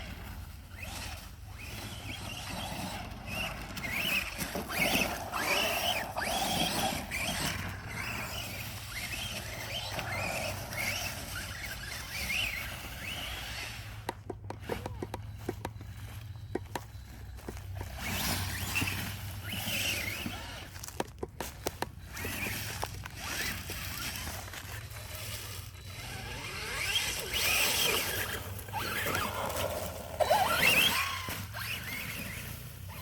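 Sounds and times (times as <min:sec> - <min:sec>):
rc truck motor whine: 0:00.0 - 0:33.0.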